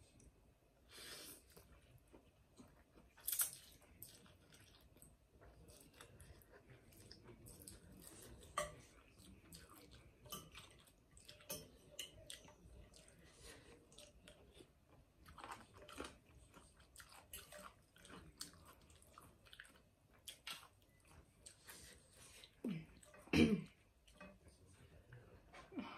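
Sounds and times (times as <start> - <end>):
person chewing and slurping noodles: 0.9 - 25.3.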